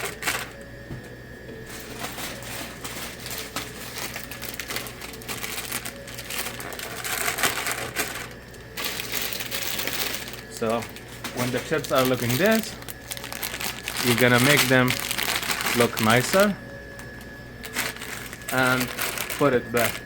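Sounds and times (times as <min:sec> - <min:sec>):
foil chip bags crinkling: 0:00.0 - 0:00.6, 0:01.6 - 0:20.0.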